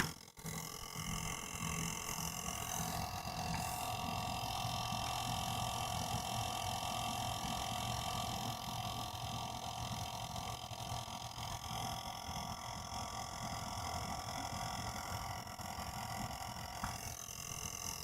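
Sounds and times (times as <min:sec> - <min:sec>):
water pump rumbling with whine: 0:00.0 - 0:18.0.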